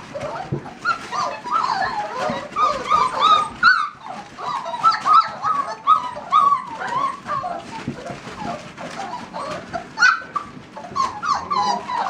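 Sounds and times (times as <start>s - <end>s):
puppies yipping and whimpering: 0.0s - 12.0s.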